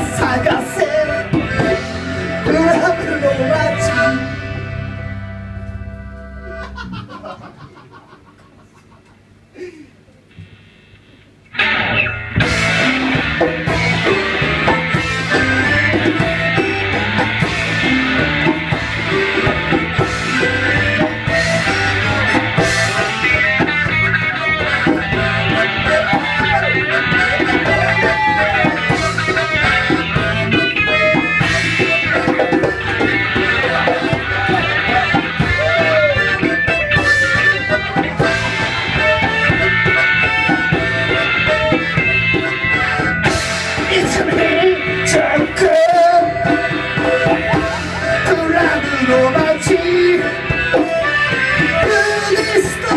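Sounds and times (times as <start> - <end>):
rock band music: 0.0 - 8.0, 11.5 - 52.9.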